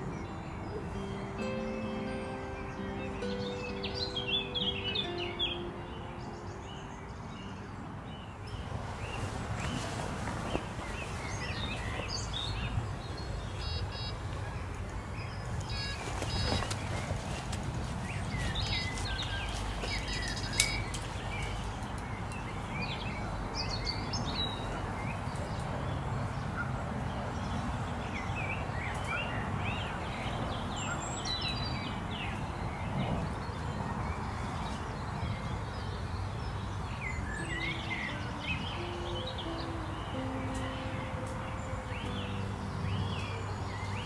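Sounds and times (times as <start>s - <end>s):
small birds chirping and singing: 0.0s - 44.0s.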